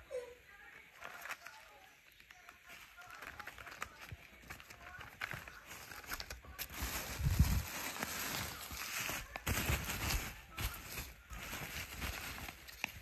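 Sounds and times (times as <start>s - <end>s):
plastic packaging crinkling: 0.6s - 13.0s.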